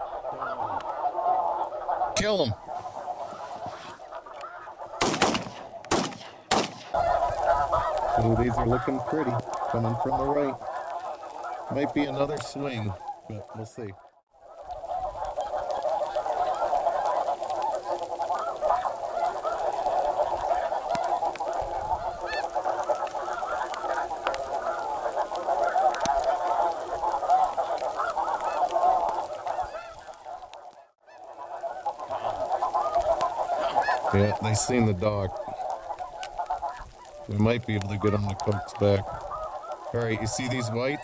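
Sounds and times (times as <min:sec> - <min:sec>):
flock of geese honking: 0:00.0 - 0:41.0.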